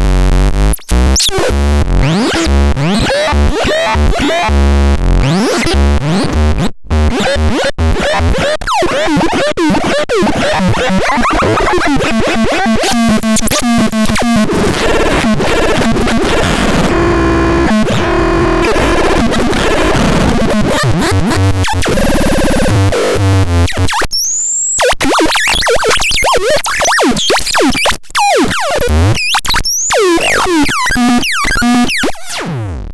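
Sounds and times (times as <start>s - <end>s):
electronic synthesizer sounds: 0.0s - 32.8s.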